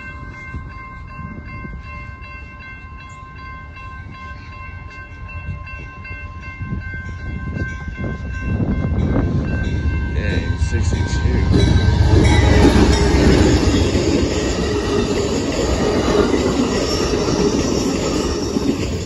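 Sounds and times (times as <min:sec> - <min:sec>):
passenger train rumble: 0:00.0 - 0:19.0.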